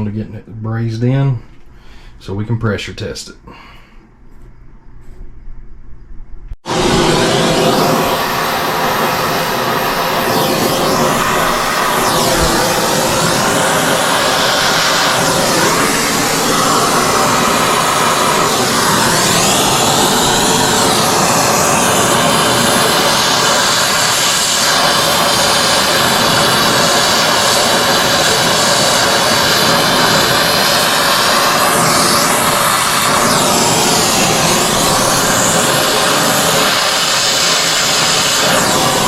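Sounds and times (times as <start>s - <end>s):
torch flame hissing: 6.6s - 39.0s.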